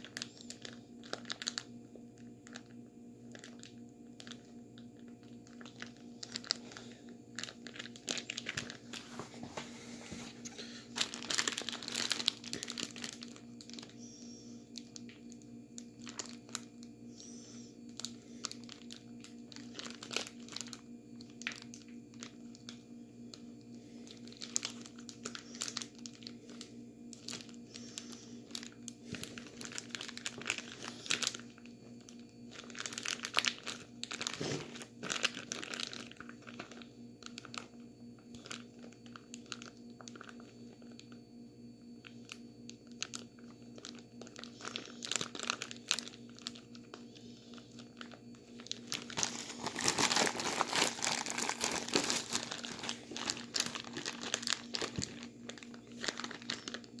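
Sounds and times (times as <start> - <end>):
plastic bag of ice crunching: 0.0 - 9.4, 10.4 - 14.0, 14.8 - 41.2, 42.0 - 57.0
steady low hum: 0.0 - 57.0.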